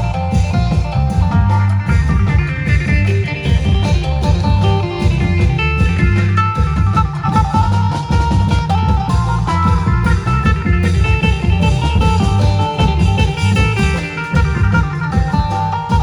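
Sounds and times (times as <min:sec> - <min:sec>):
long drums beating: 0:00.0 - 0:16.0
plucked string melody: 0:00.0 - 0:16.0.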